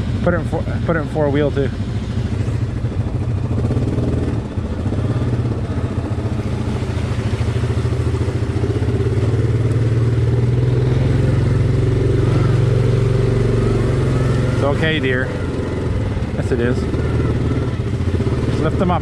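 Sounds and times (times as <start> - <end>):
atv engine throbbing: 0.0 - 19.0.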